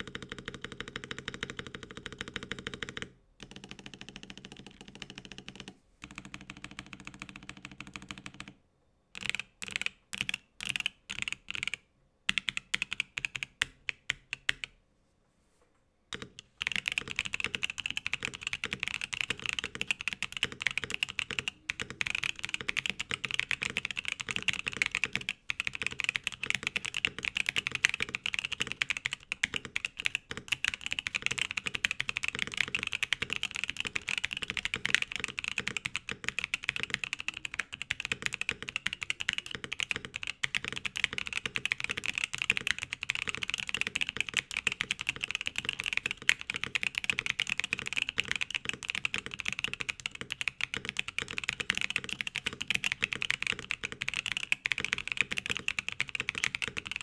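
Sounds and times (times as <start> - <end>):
mechanical keyboard typing: 0.0 - 14.8, 16.1 - 57.0.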